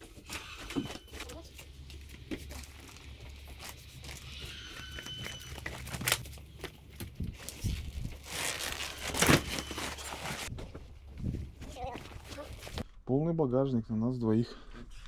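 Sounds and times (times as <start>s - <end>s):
bags rustling and knocking: 0.0s - 12.8s.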